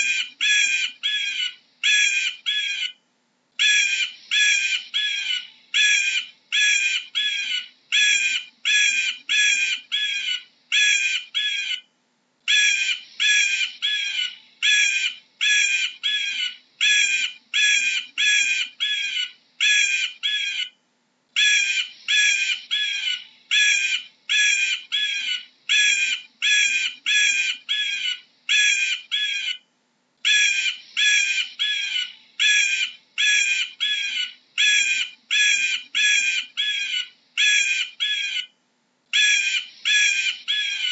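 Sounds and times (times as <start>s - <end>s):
eagle calling: 0.0s - 3.0s, 3.6s - 11.9s, 12.5s - 20.8s, 21.4s - 40.9s.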